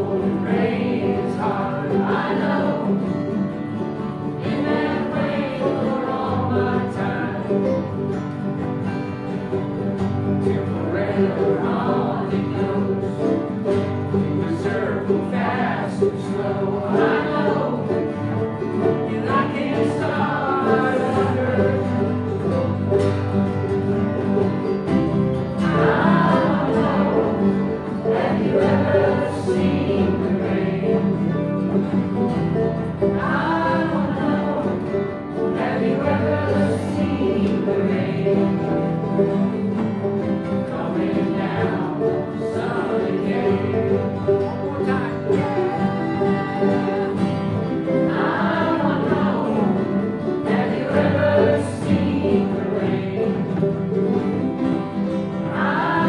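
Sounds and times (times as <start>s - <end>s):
group of people singing: 0.0s - 56.0s
strummed acoustic guitars: 0.0s - 56.0s.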